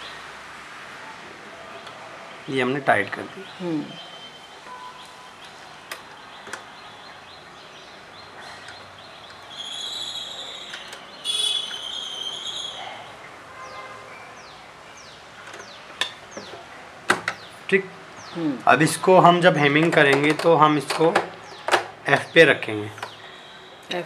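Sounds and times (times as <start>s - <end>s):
birds chirping: 1.5s - 24.0s.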